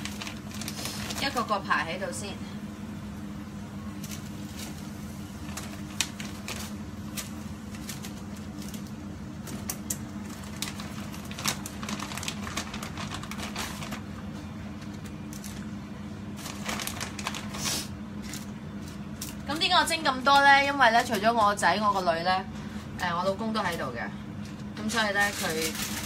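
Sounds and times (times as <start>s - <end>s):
plastic and paper crinkling: 0.0s - 1.6s, 4.0s - 22.1s, 24.4s - 26.0s
steady low hum: 0.0s - 26.0s.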